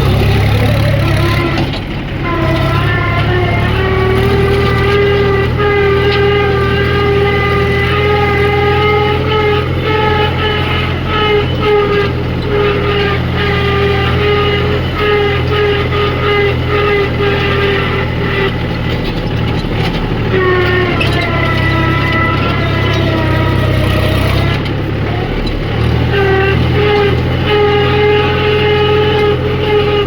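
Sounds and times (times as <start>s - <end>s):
diesel engine running under load: 0.0s - 30.0s
pulsing horn-like tone: 0.0s - 30.0s.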